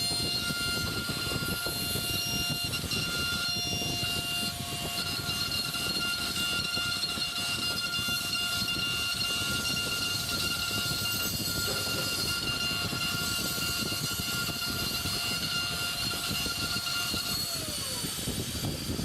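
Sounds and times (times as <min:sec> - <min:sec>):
bit cutting metal: 0:00.0 - 0:19.0
engraving machine spindle whine: 0:00.0 - 0:19.0.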